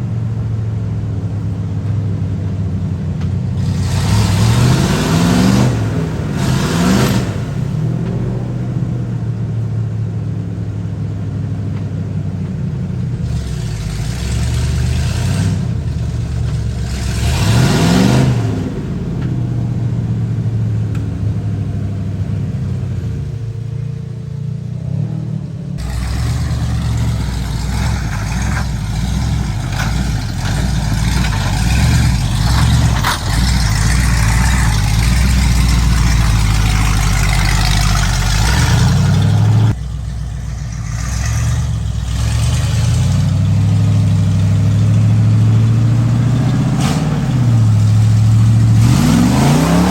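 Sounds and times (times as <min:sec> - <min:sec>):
rough engine running: 0:00.0 - 0:49.9
truck engines revving: 0:00.0 - 0:49.9.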